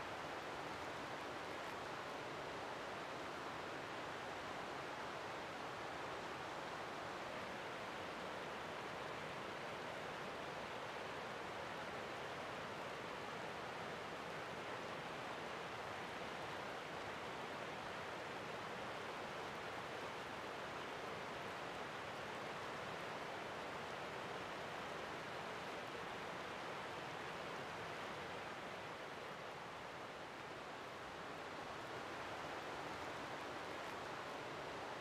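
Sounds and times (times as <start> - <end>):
river water rushing over weir: 0.0 - 35.0.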